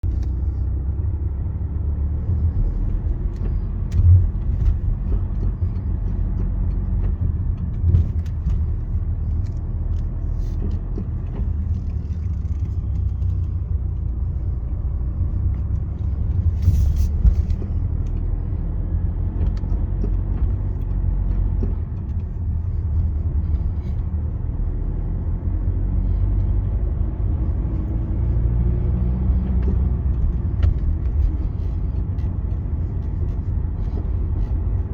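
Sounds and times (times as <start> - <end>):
diesel engine accelerating: 0.0 - 34.9.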